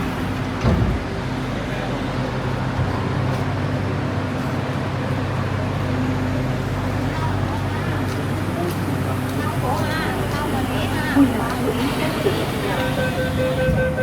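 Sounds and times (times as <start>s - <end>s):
train car rumble and hum: 0.0s - 14.0s.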